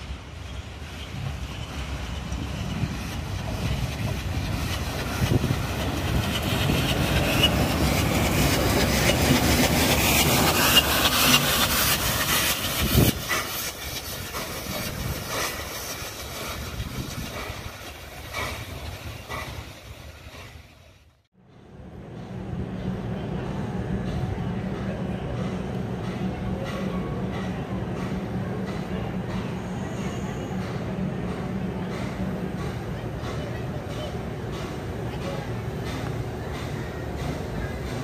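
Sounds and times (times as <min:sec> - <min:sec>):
steam hissing: 0:00.0 - 0:21.0, 0:25.4 - 0:38.0
steam locomotive passing: 0:00.0 - 0:38.0
train wheels clicking: 0:00.4 - 0:20.9, 0:24.0 - 0:38.0.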